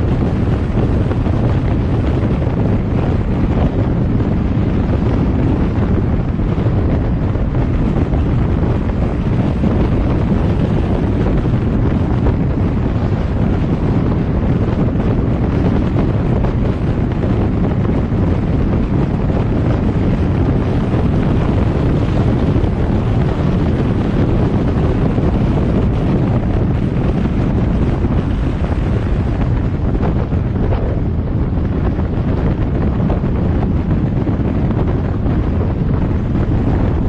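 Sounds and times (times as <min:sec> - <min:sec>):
car driving on road: 0:00.0 - 0:37.0
wind on microphone: 0:00.0 - 0:37.0.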